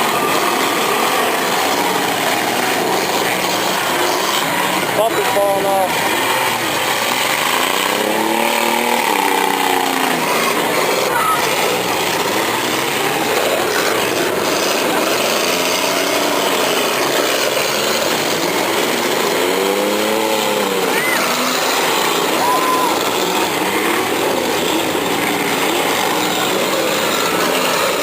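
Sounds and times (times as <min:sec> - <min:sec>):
car engine revving: 0:00.0 - 0:28.0
car engines running hard: 0:00.0 - 0:28.0.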